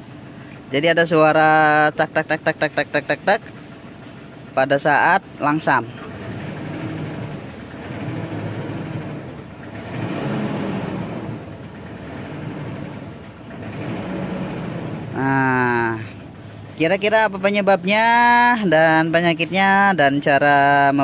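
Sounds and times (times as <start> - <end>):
diesel engine idling rough: 0.0 - 21.0
engine ticking: 0.0 - 21.0.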